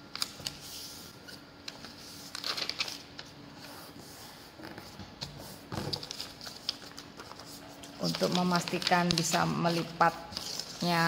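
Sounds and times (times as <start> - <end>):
paper rustling and crinkling: 1.7 - 11.0.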